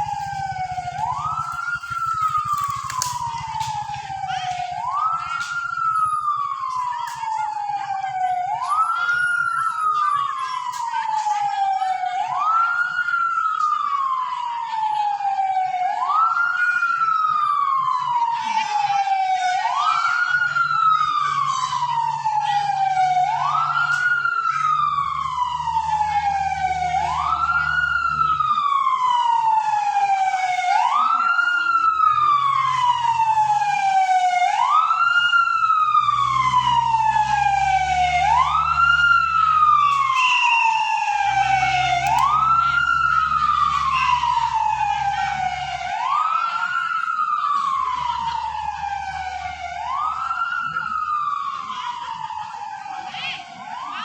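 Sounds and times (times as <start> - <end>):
siren-like wail: 0.0 - 54.0.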